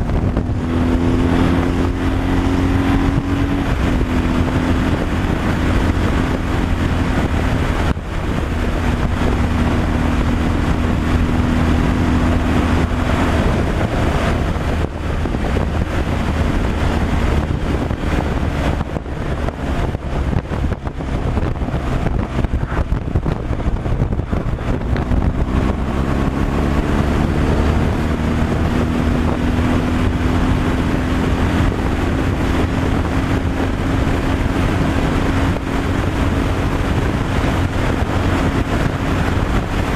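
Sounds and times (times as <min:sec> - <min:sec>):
road and wind noise: 0:00.0 - 0:39.9
truck engine running: 0:00.0 - 0:39.9.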